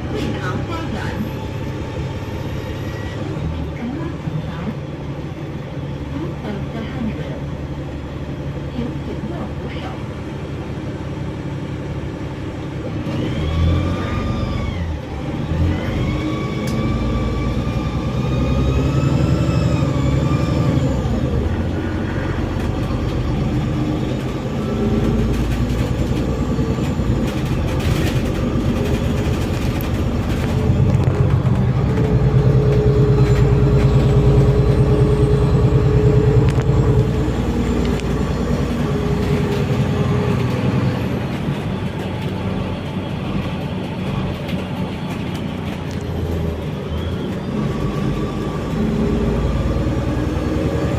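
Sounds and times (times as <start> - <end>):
bus engine drone: 0.0 - 50.9
drivetrain whine: 0.0 - 50.9.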